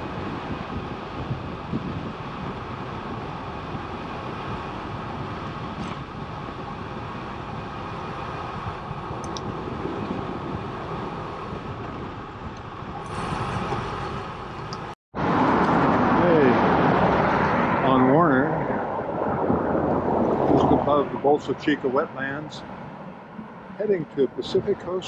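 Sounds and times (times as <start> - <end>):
bicycle tyres rumbling on asphalt: 0.0 - 23.8
wind on microphone: 0.0 - 25.0.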